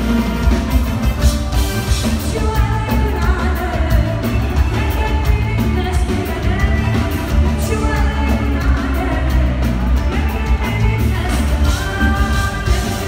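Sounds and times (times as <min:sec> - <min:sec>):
electric guitar: 0:00.0 - 0:13.0
heavy bass: 0:00.0 - 0:13.0
steady drum beat: 0:00.0 - 0:13.0
woman singing: 0:02.0 - 0:13.0.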